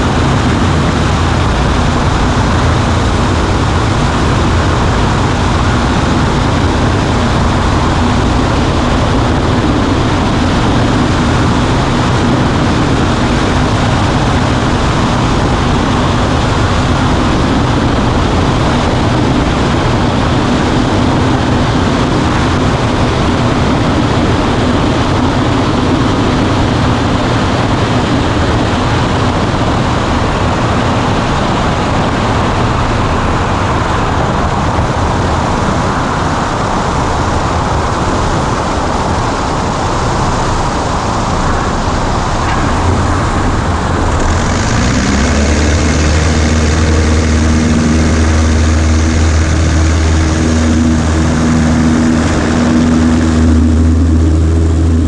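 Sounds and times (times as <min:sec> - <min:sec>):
light aircraft cockpit drone: 0:00.0 - 0:55.0.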